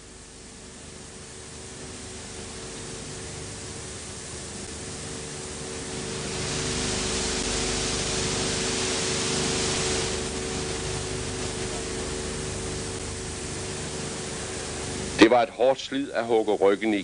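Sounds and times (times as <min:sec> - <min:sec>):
film recording hiss: 0:00.0 - 0:17.0
low electrical hum: 0:00.0 - 0:17.0.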